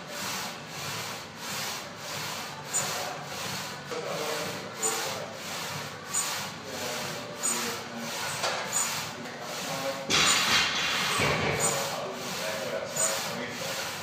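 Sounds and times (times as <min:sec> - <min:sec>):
leg press sled sliding: 0:00.0 - 0:14.0.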